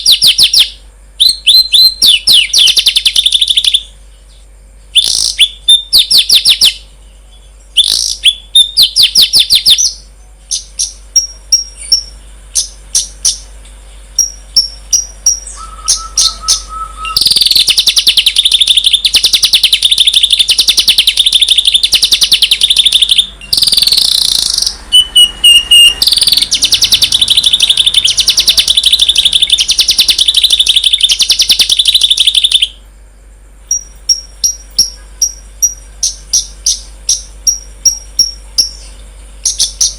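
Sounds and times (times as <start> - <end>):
songbird chirps and trill: 0.0 - 39.9.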